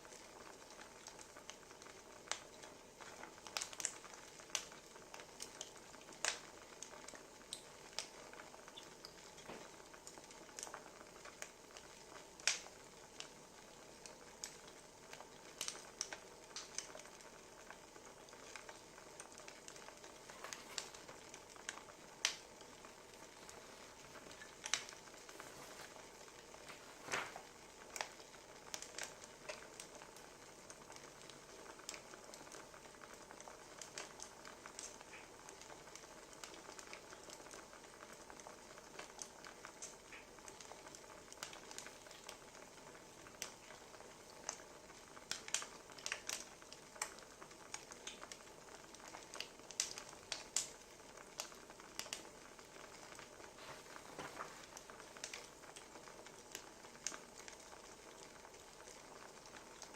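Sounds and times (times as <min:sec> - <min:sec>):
low fire hiss: 0:00.0 - 0:59.9
wood fire crackling: 0:00.0 - 0:59.9.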